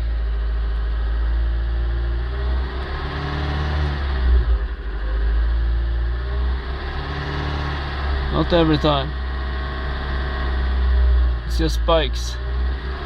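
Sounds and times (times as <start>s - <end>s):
car engine running and stumbling: 0.0s - 3.1s, 4.0s - 13.0s.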